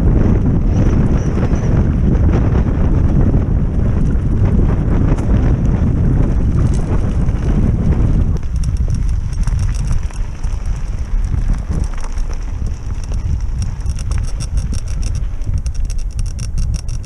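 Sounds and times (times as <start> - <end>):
bike clicking and rattling: 0.0 - 17.0
bike tyres rolling on gravel: 0.0 - 17.0
wind buffeting microphone: 0.0 - 17.0.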